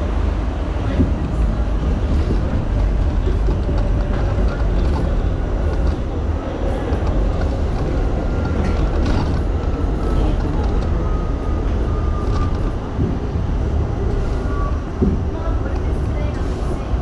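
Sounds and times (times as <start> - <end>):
subway train wheels rumbling: 0.0 - 17.0.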